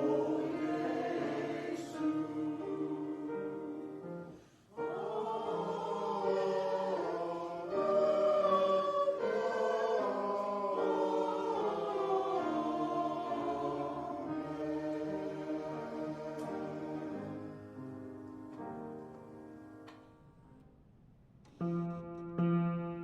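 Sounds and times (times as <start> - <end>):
choir singing slow music: 0.0 - 19.4.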